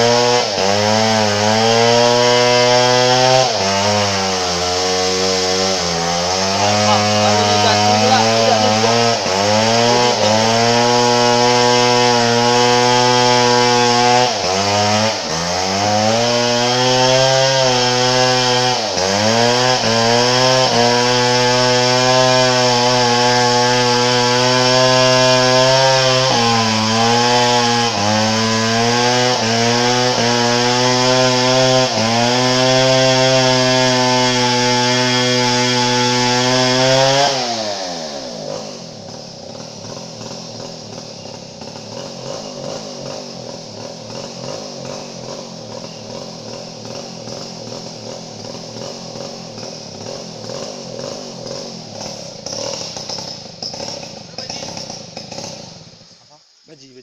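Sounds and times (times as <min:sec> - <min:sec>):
chainsaw cutting through timber: 0:00.0 - 0:56.2.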